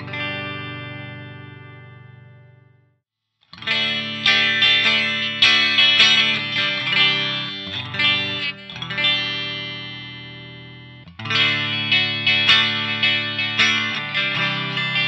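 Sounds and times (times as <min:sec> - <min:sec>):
electric guitar chords strummed: 0:00.0 - 0:02.9, 0:03.5 - 0:15.0.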